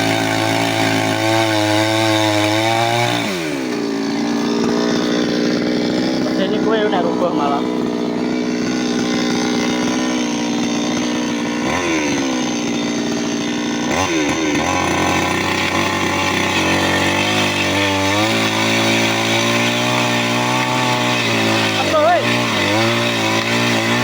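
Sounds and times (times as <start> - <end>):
chainsaw engine running hard: 0.0 - 24.0.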